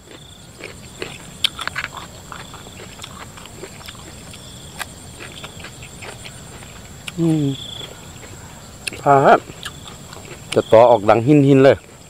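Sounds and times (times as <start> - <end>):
wet chewing and lip-smacking: 0.1 - 10.7.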